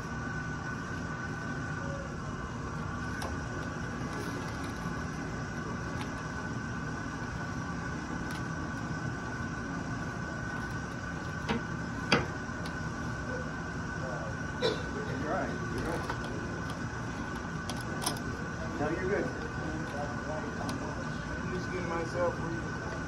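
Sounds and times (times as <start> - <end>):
room hum: 0.0 - 23.0.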